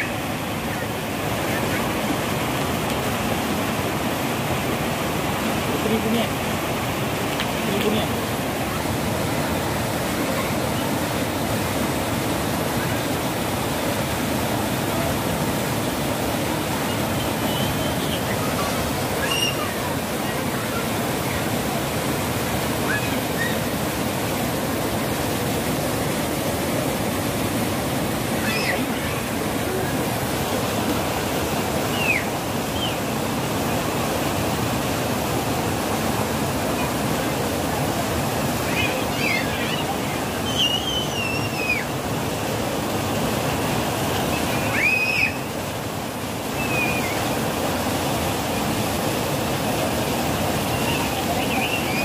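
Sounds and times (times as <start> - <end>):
river rushing over rapids: 0.0 - 52.0.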